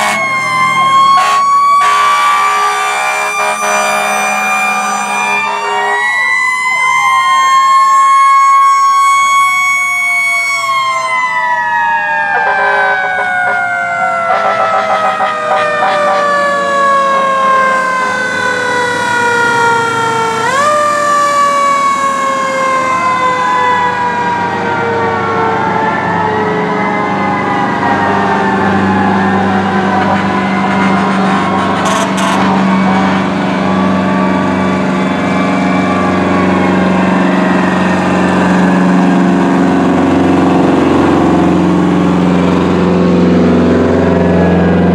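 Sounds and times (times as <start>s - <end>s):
fire engine sirens wailing: 0.0s - 44.9s.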